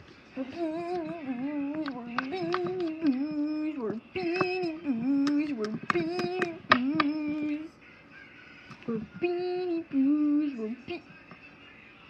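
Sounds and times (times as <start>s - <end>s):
high voice singing wordless tune: 0.3s - 7.8s, 8.6s - 11.4s.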